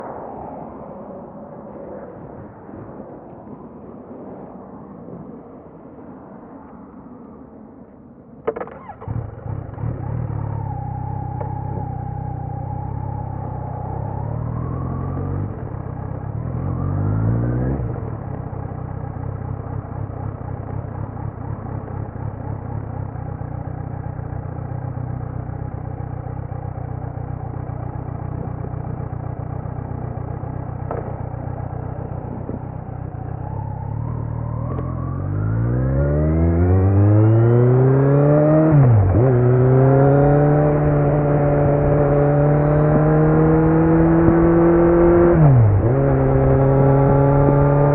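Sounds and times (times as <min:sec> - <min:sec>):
motorcycle engine idling and revving: 0:08.4 - 0:47.9.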